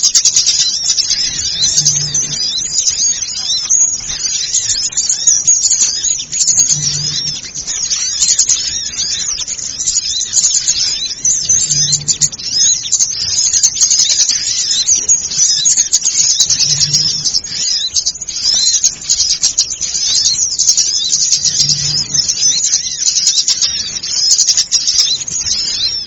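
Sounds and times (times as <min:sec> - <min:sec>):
small birds chirping and twittering: 0:00.0 - 0:26.0.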